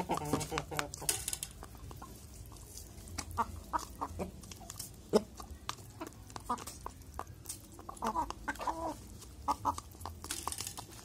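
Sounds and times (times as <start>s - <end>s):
beaks tapping plastic cup: 0.0s - 2.1s, 3.2s - 11.0s
chickens clucking: 0.0s - 11.0s.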